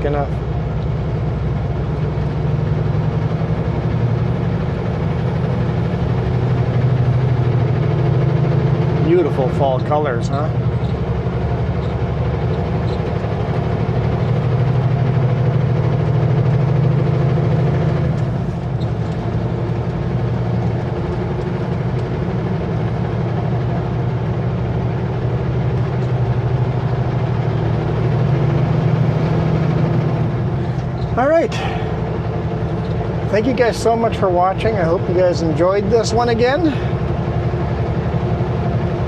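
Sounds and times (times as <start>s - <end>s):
truck diesel engine running: 0.0s - 39.0s.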